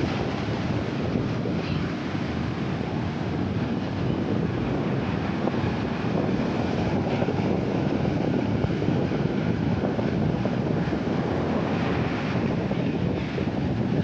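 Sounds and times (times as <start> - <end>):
sea surf washing on beach: 0.0 - 14.0
wind buffeting microphone: 0.0 - 14.0.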